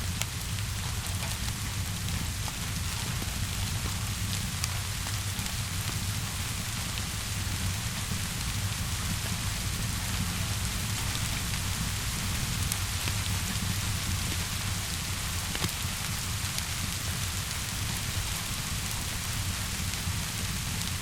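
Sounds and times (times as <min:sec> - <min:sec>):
fire crackling: 0:00.0 - 0:21.0
steady rainfall hissing: 0:00.0 - 0:21.0.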